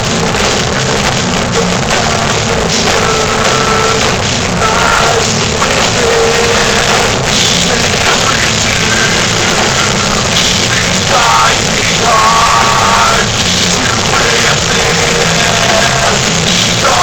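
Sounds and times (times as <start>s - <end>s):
distorted guitars: 0.0s - 17.0s
pounding drum kit: 0.0s - 17.0s.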